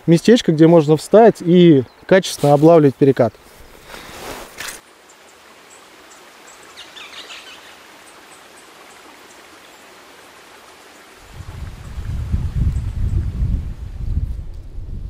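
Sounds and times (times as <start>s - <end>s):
river water flowing: 0.0s - 13.2s.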